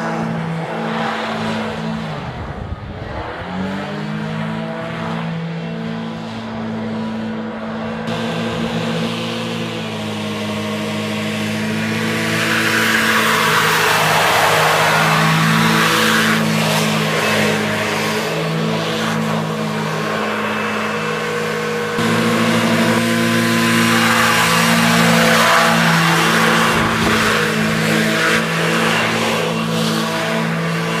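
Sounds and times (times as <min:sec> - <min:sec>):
hovercraft engine running: 0:00.0 - 0:31.0.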